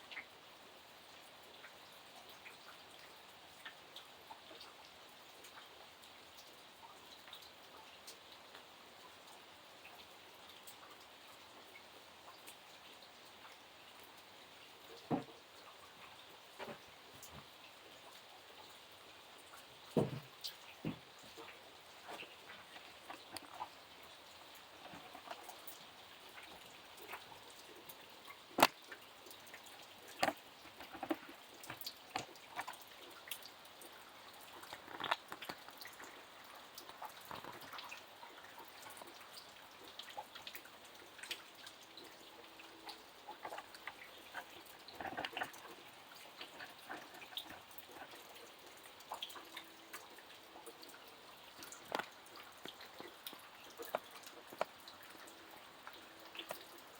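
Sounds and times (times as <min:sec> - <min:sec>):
faint steady hiss: 0:00.0 - 0:56.9
rain drops plopping: 0:00.0 - 0:56.9.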